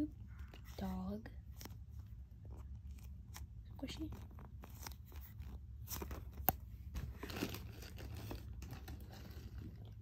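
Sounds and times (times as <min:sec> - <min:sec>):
crinkly rustling: 0:00.2 - 0:10.0.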